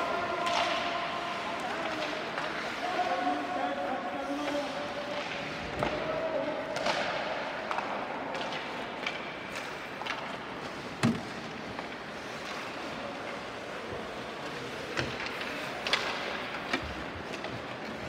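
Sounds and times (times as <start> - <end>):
arena noise: 0.0 - 18.0
skates and sticks on ice: 0.0 - 18.0.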